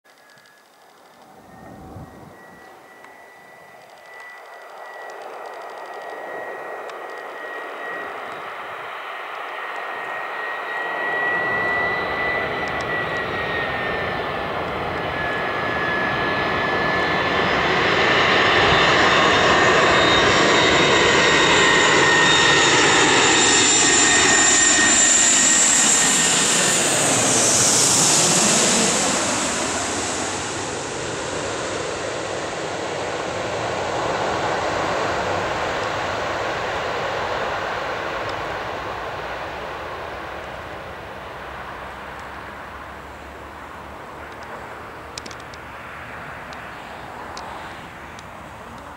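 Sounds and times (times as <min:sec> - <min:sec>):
jet airliner engines roaring: 0:00.1 - 0:48.9.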